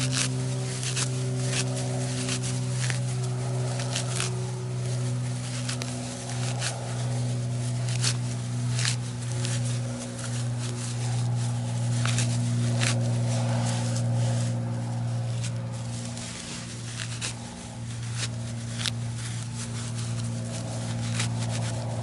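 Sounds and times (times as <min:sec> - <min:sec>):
dry grass crackling: 0:00.0 - 0:22.0
steady low hum: 0:00.0 - 0:22.0.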